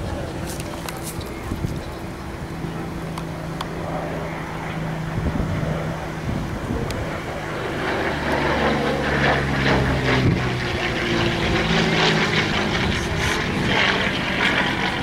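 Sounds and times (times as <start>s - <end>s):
propeller plane droning overhead: 0.0s - 15.0s.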